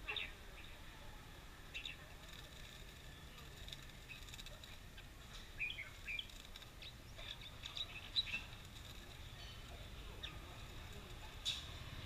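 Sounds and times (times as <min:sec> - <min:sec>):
birds chirping: 0:00.0 - 0:12.0
street noise rumble: 0:00.0 - 0:12.0.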